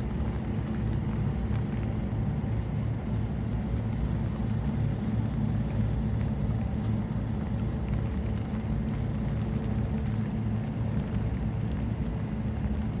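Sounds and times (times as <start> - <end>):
faint rain ticks: 0.0 - 13.0
ventilation fan humming: 0.0 - 13.0.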